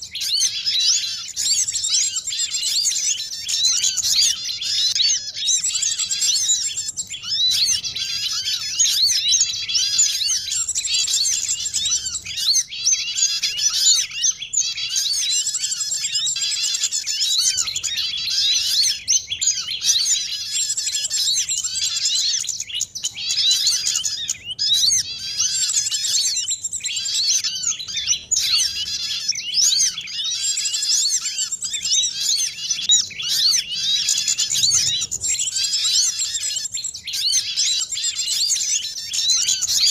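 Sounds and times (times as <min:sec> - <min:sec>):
chorus of songbirds chirping: 0:00.0 - 0:39.9.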